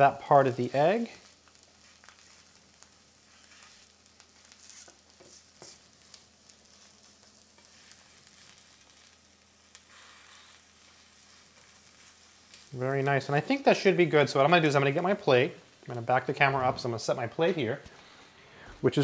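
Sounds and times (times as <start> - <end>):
eggs sizzling in a pan: 0.0 - 18.7.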